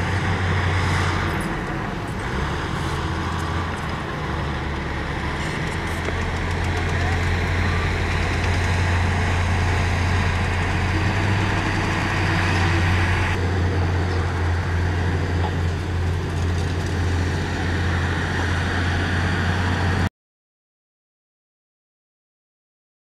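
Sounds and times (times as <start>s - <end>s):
heavy diesel engine running: 0.0s - 20.1s.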